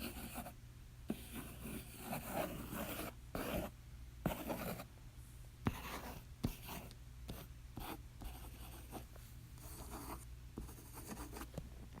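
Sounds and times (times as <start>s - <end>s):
pencil scratching on paper: 0.0s - 3.7s, 4.3s - 4.9s, 5.7s - 11.5s.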